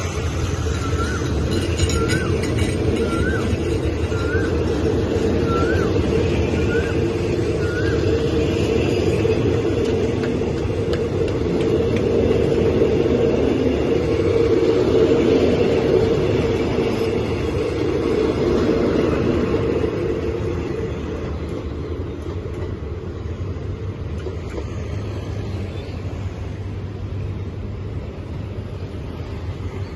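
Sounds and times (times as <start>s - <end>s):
train coaches rumbling past: 0.0s - 29.9s.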